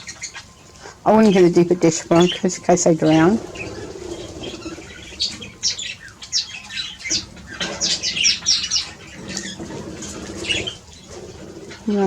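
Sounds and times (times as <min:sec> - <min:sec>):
birds squawking and chirping: 0:00.0 - 0:12.0
wing flutters: 0:00.0 - 0:12.0.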